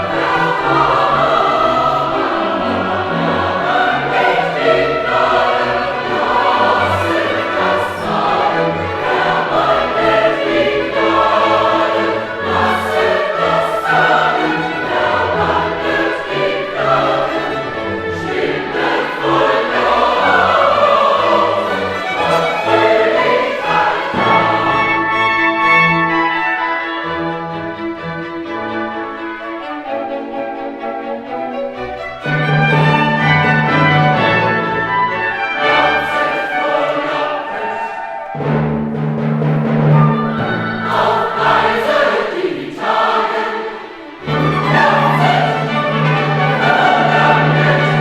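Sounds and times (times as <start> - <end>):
choir singing sacred music: 0.0 - 48.0
instrumental accompaniment: 0.0 - 48.0.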